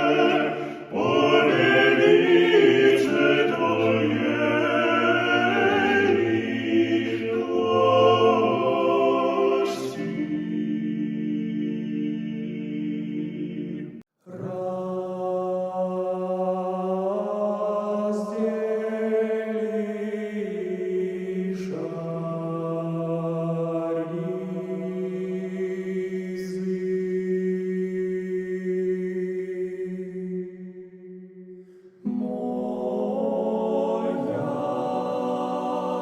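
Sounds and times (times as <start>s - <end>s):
slow church chant: 0.0s - 36.0s.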